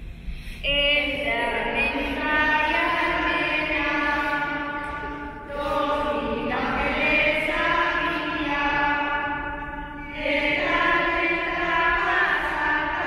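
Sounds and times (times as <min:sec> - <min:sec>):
women singing slow song: 0:00.6 - 0:13.0.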